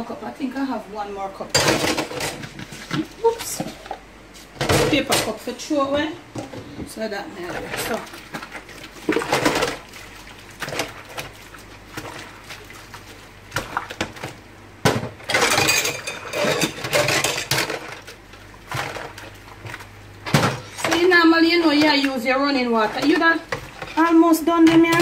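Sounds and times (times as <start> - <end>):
water sloshing and splashing: 4.6 - 25.0.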